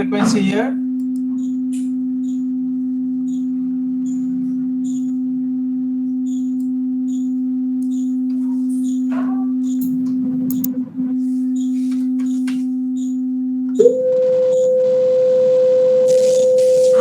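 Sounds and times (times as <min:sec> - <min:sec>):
steady electronic test tone: 0:00.0 - 0:17.0.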